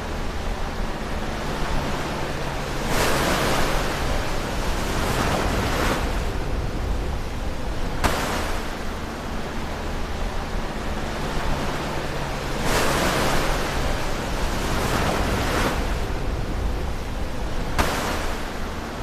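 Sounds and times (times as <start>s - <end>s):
ocean waves breaking: 0.0s - 19.0s
steady hiss of surf: 0.0s - 19.0s.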